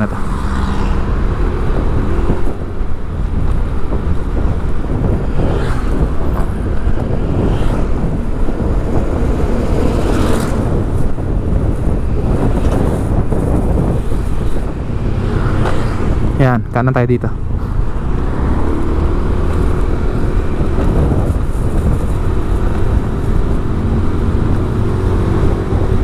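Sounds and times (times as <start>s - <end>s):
city traffic rumble: 0.0s - 26.0s
wind on microphone: 0.0s - 26.0s.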